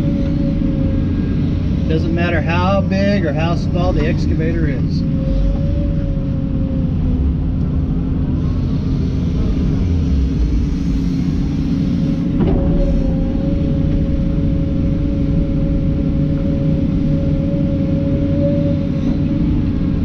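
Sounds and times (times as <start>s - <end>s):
excavator engine and hydraulics: 0.0s - 20.0s
steady whine: 0.0s - 20.0s.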